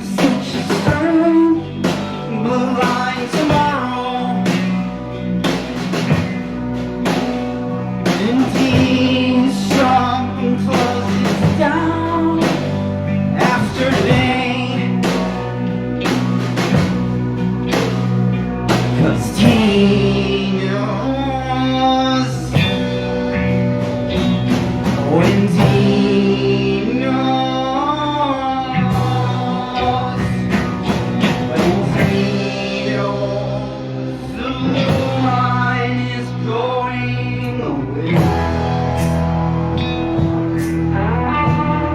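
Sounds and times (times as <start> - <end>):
person singing: 0.0 - 41.9
rock band playing: 0.0 - 41.9.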